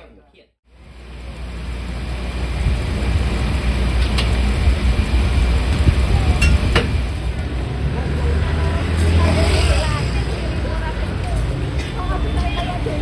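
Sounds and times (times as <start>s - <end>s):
moving vehicle rumble: 0.7s - 13.0s.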